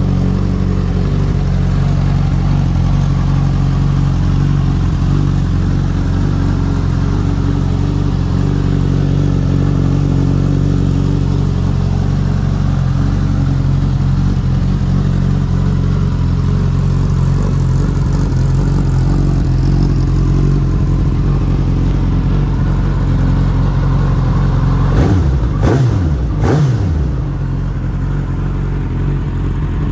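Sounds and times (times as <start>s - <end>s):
motorcycle engine idling and revving: 0.0s - 29.9s.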